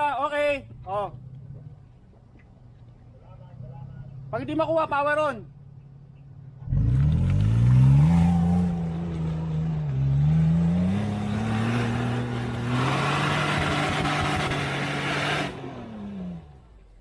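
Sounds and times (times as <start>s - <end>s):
off-road vehicle engine revving: 3.3s - 17.0s.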